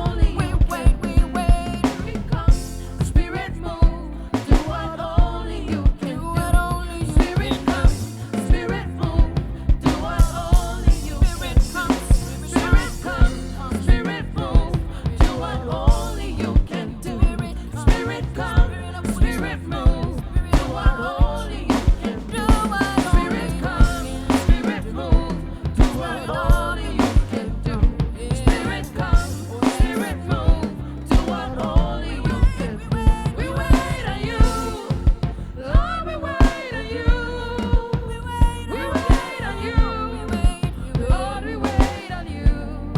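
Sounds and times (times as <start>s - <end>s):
drum kit and bass beat: 0.0s - 42.9s
gospel worship band music: 0.0s - 42.9s.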